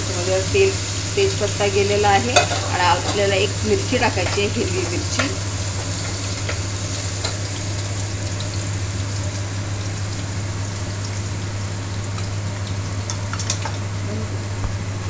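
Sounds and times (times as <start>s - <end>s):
hot oil sizzling: 0.0s - 14.1s
steady low hum: 0.0s - 15.0s.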